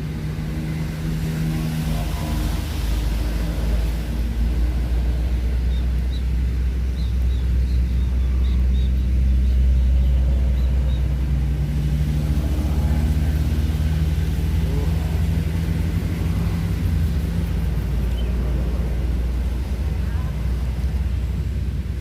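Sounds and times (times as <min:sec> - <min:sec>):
droning hum: 0:00.0 - 0:22.0
low rumble: 0:00.0 - 0:22.0.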